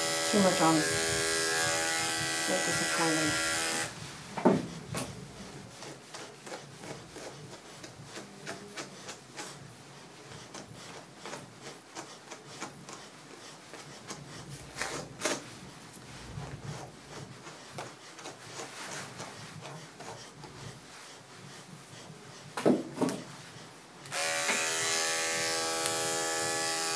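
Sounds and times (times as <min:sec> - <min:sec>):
brush scratching through dog fur: 0:00.2 - 0:22.6, 0:23.3 - 0:26.9.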